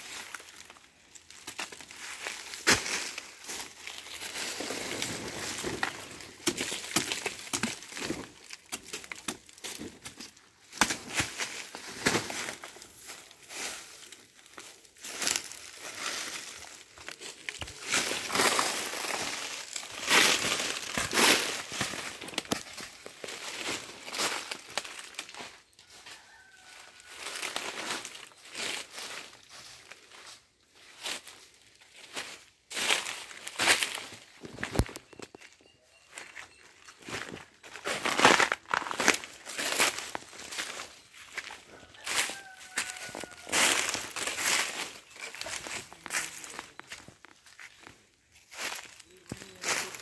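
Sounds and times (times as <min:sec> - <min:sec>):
dry leaves crackling underfoot: 0:00.0 - 0:50.0.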